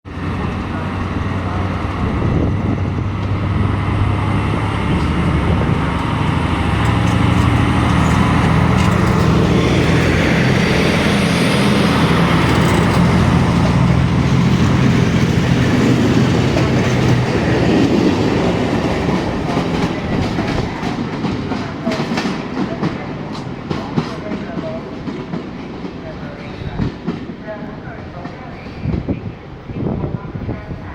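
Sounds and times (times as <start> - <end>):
train running on tracks: 0.0 - 30.9.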